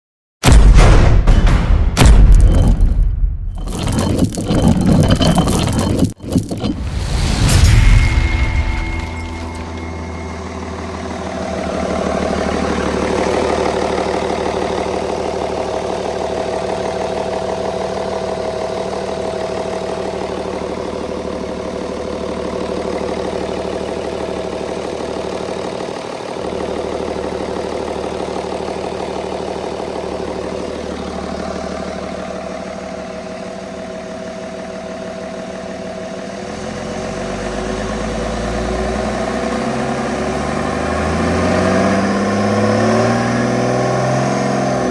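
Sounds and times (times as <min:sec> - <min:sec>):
diesel engine idling: 0:07.9 - 0:44.9.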